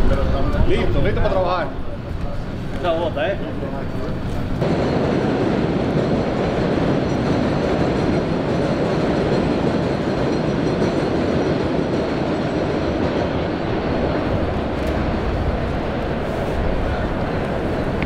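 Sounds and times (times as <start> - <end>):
train wheels on elevated track: 0.0 - 18.0.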